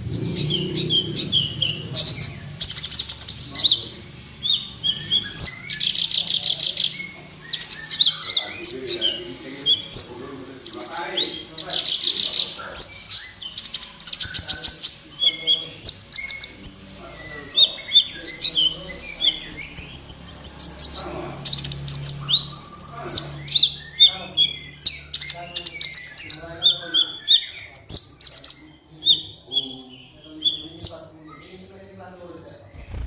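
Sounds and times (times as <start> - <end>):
sunbird chirping and trilling: 0.0 - 33.0.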